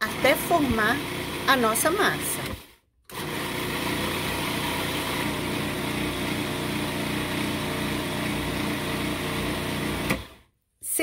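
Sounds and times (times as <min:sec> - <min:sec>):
food processor running: 0:00.0 - 0:10.5.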